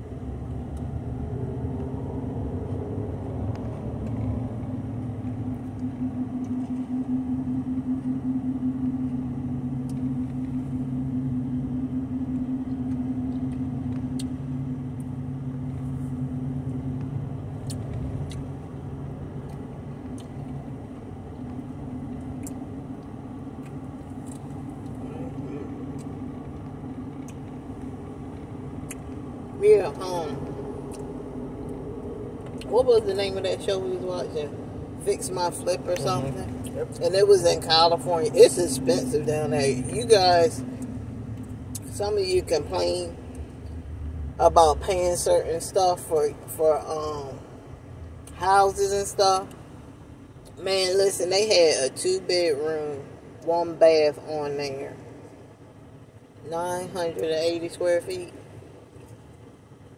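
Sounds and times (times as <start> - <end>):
car engine hum from inside cabin: 0.0 - 59.9.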